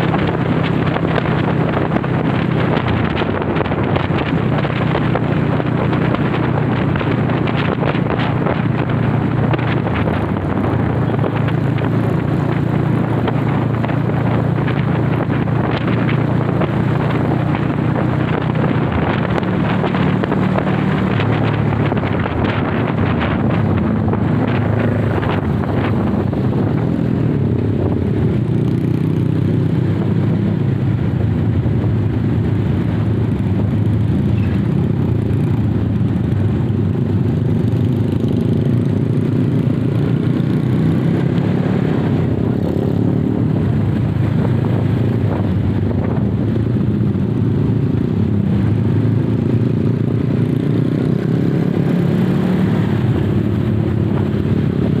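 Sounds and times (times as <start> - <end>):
motorcycle engine cruising: 0.0 - 55.0
road and wind noise: 0.0 - 55.0.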